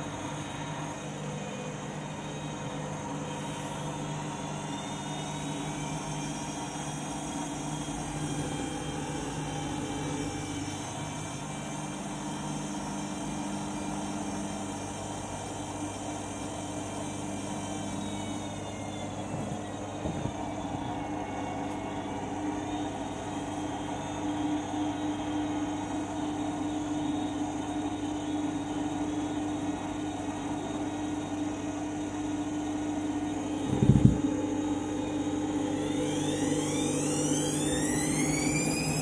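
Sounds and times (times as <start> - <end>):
washing machine motor hum and whine: 0.0 - 39.0.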